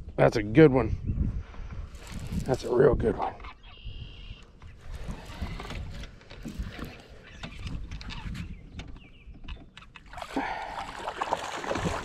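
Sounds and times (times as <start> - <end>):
low wind rumble on microphone: 0.0 - 9.8.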